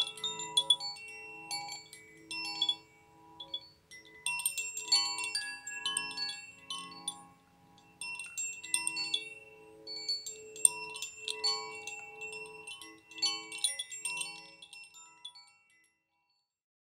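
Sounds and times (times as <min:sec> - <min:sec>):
metallic chimes ringing: 0:00.0 - 0:15.9.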